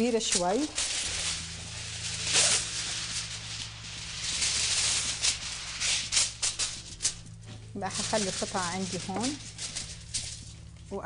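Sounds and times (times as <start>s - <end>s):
aluminium foil crinkling: 0.0s - 11.0s
steady low hum: 0.0s - 11.0s.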